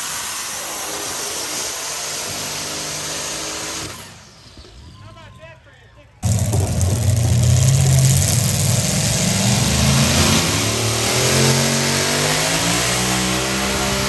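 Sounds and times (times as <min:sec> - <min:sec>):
tractor engine at high revs: 0:00.0 - 0:04.6, 0:06.2 - 0:14.0.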